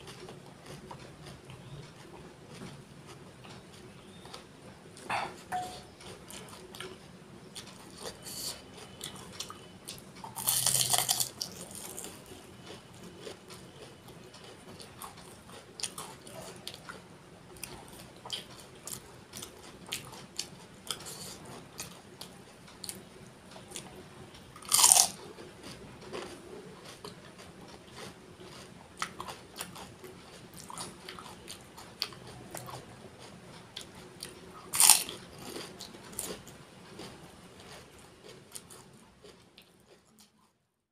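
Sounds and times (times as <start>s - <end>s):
crunching and chewing food: 0.0s - 40.7s.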